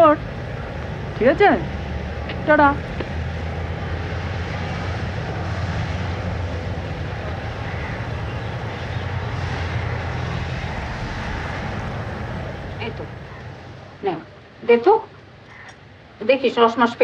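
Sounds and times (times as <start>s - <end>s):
low engine drone: 0.0s - 14.7s.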